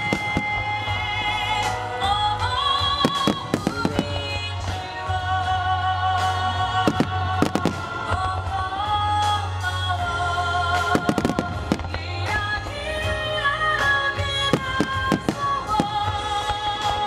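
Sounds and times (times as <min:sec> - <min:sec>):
fireworks bursting: 0:00.0 - 0:05.3, 0:06.2 - 0:17.0.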